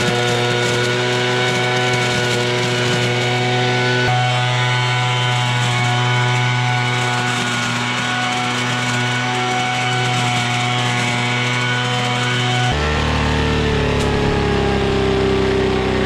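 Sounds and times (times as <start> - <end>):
leaf blower running: 0.0 - 16.0.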